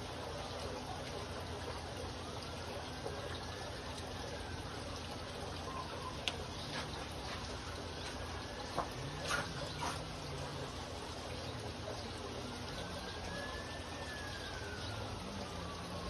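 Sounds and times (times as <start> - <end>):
water trickling in fish tank: 0.0 - 16.0.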